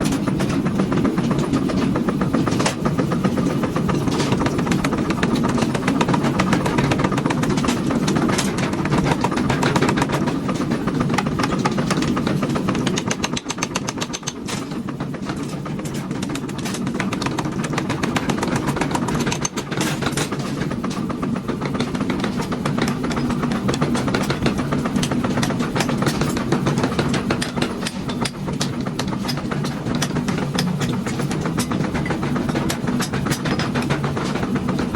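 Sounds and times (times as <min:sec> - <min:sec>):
machinery rumbling: 0:00.0 - 0:34.9
sharp knocks and clatters: 0:00.0 - 0:34.9.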